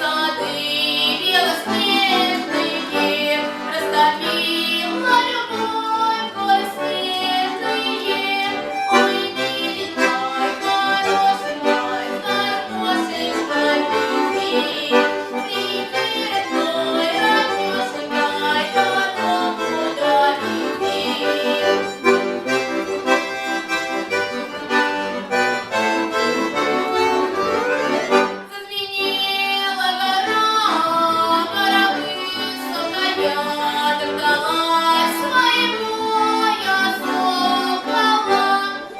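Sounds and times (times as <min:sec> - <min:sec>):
accordion folk melody: 0:00.0 - 0:38.9.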